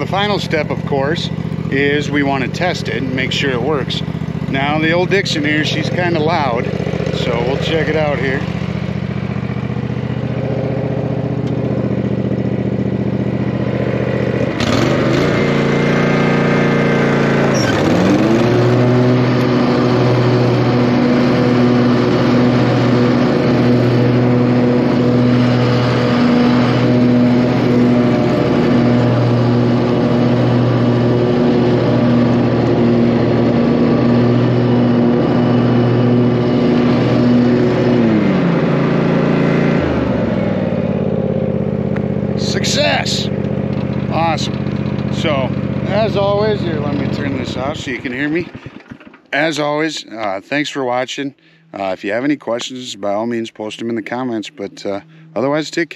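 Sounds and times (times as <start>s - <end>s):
mower engine running loud: 0.0s - 50.4s, 53.0s - 55.9s.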